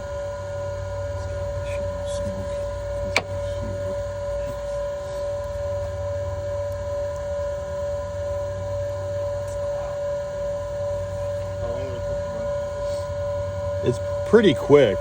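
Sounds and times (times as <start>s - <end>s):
smoke machine humming: 0.0s - 15.0s.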